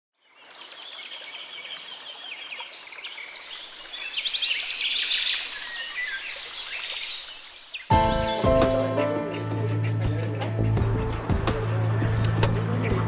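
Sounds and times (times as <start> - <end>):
songbirds chirping and trilling: 0.2 - 13.0.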